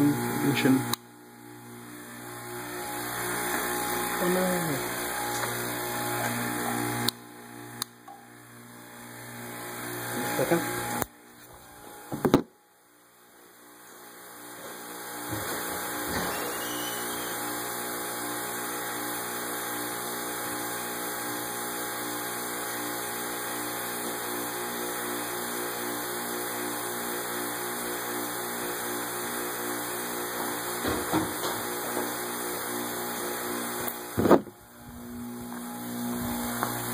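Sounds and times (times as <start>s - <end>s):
vacuum pump humming: 0.0s - 36.9s.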